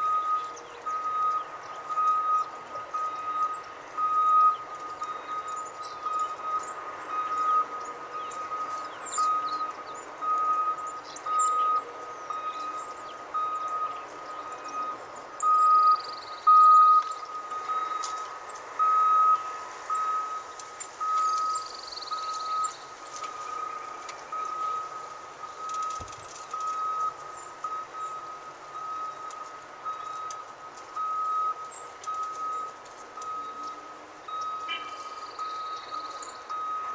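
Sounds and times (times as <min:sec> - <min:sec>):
backup alarm beeping: 0:00.0 - 0:36.9.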